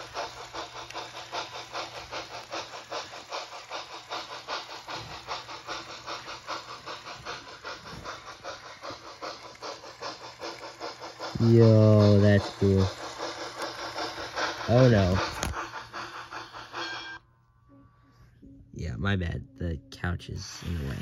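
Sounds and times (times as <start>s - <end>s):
model locomotive steam chuffs: 0.0s - 17.2s, 20.4s - 21.0s.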